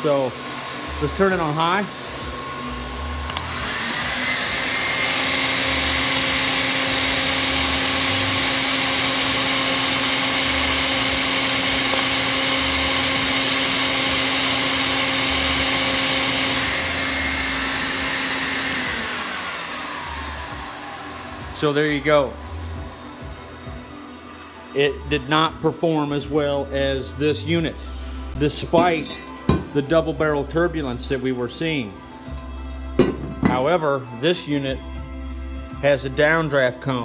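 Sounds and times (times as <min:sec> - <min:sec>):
blower motor whine: 0:00.0 - 0:33.6.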